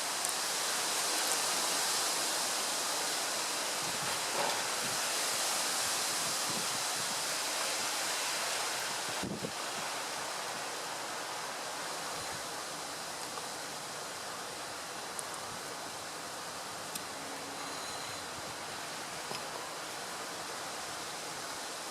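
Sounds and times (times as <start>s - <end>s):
wind rushing through trees: 0.0s - 21.9s.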